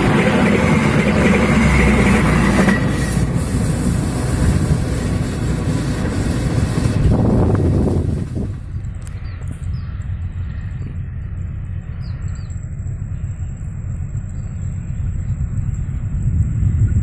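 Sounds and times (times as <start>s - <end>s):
passenger train passing: 0.0s - 17.0s.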